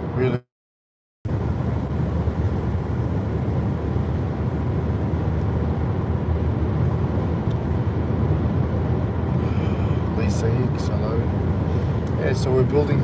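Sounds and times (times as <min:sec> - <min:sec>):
car road and engine rumble: 0:00.0 - 0:00.4, 0:01.3 - 0:13.0.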